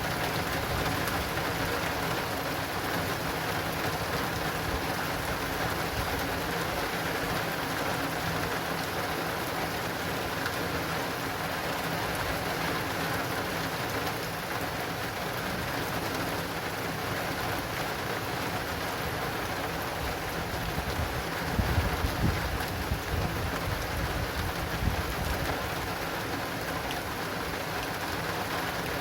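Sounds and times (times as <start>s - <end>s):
heavy rain falling: 0.0s - 29.0s
raindrops pattering on awning: 0.0s - 29.0s.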